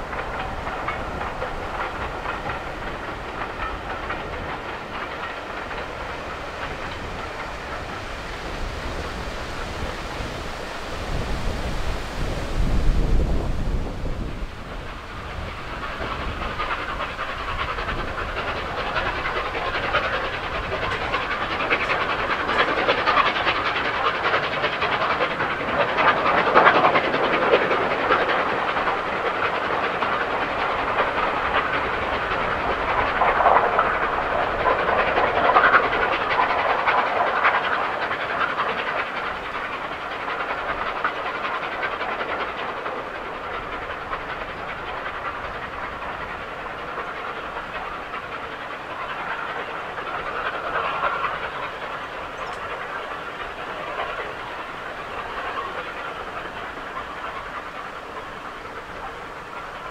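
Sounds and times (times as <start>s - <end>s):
steam locomotive rushing exhaust: 0.0s - 59.9s.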